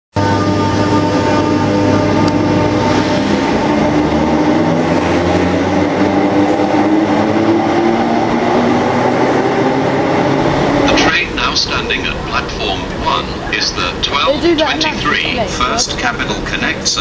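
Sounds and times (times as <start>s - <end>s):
train motor hum: 0.1s - 17.0s
train wheels rumbling: 0.1s - 17.0s.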